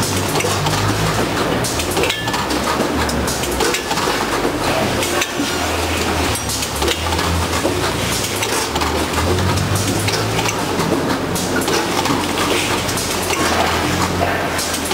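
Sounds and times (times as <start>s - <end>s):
limes clattering into metal hoppers: 0.0s - 14.9s.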